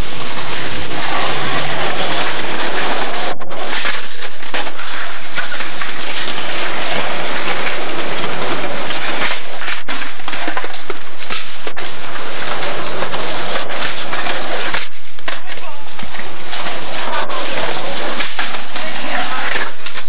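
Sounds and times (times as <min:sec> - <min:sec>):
skateboard wheels rolling on concrete: 0:00.0 - 0:20.0.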